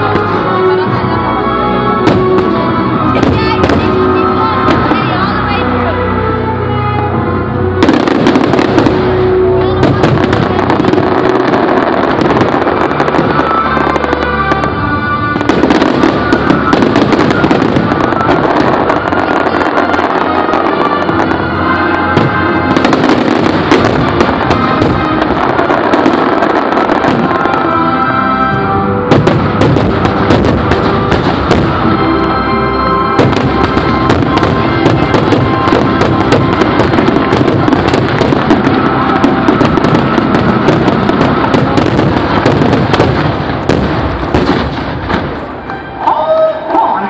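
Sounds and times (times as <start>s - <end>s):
fireworks bursting: 0.0s - 47.0s
music soundtrack: 0.0s - 47.0s.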